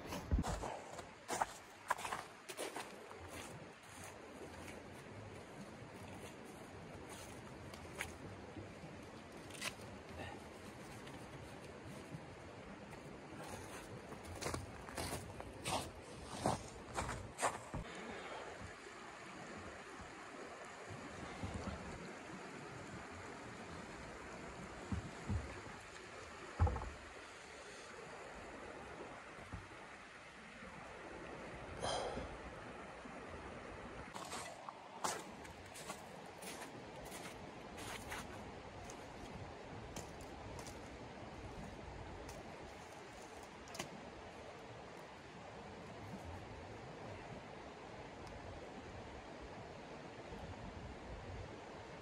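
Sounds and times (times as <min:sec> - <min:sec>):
creek water flowing over stones: 0:00.0 - 0:50.7
faint stream rushing: 0:00.0 - 0:52.0.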